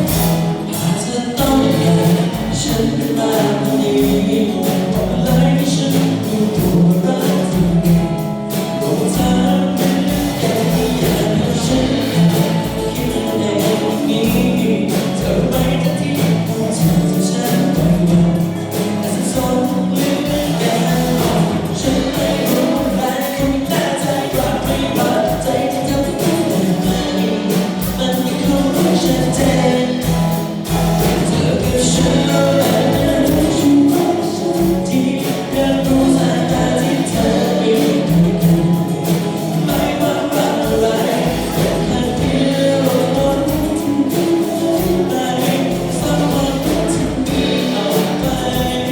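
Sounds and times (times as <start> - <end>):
band playing a song: 0.0 - 48.9
person singing: 0.0 - 48.9
steady drum beat: 0.0 - 48.9.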